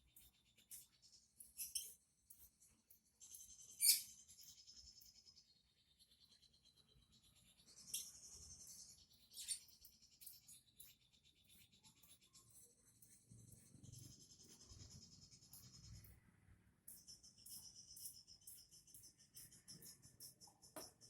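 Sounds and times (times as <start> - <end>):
sharp bird chirps: 0.0 - 16.3, 16.9 - 21.0.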